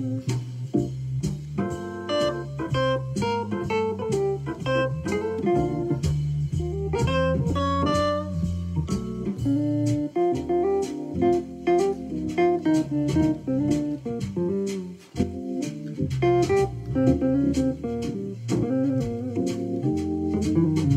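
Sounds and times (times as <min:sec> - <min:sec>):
electronic wind instrument jazz solo: 0:00.0 - 0:20.9
swing backing track: 0:00.0 - 0:20.9.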